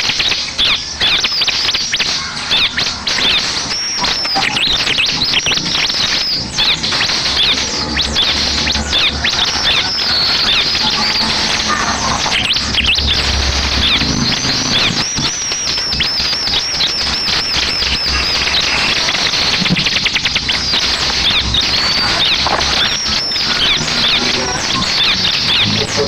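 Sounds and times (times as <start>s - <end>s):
bird whistling and trilling: 0.1s - 26.0s.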